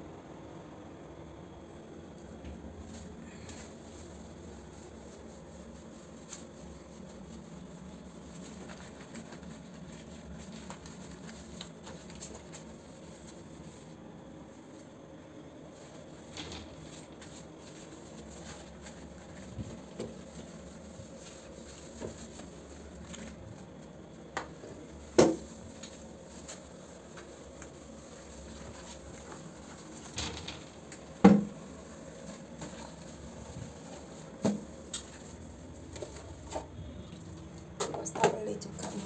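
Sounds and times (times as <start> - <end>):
wiping a toilet: 2.0 - 39.0.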